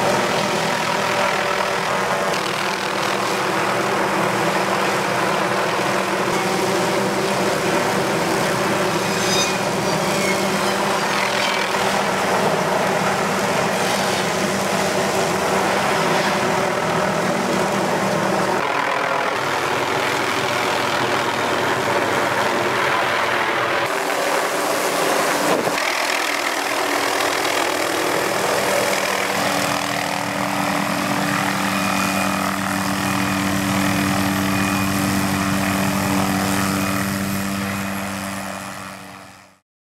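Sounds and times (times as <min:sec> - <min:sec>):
helicopter rotor and engine: 0:00.0 - 0:39.6.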